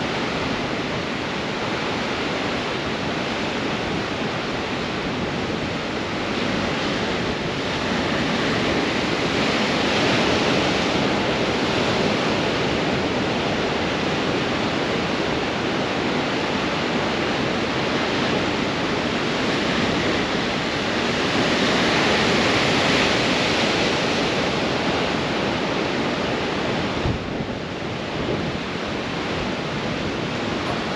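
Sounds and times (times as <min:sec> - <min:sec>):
strong wind: 0:00.0 - 0:30.9.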